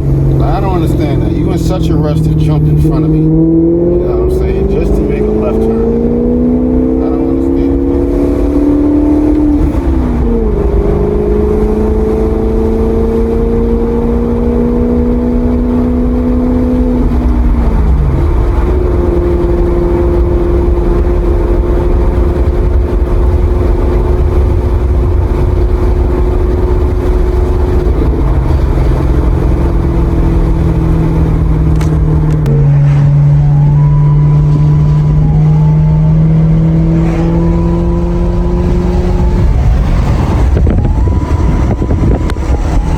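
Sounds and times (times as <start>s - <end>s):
car engine running: 0.0s - 42.9s
loud low road rumble: 0.0s - 42.9s.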